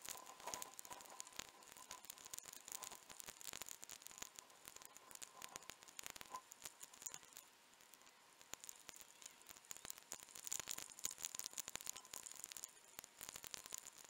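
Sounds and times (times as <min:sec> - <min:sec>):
light hiss: 0:00.0 - 0:14.0
raindrops clicking on camera: 0:00.0 - 0:14.0.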